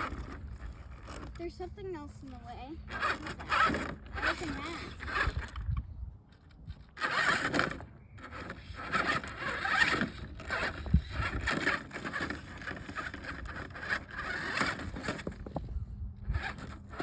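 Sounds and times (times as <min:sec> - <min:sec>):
toy truck scraping over rough ground: 0:00.0 - 0:17.0.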